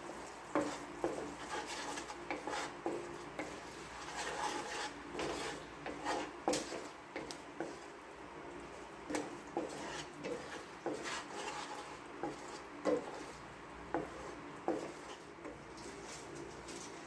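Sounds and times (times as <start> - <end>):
wooden spatula scraping a wok: 0.0 - 17.0.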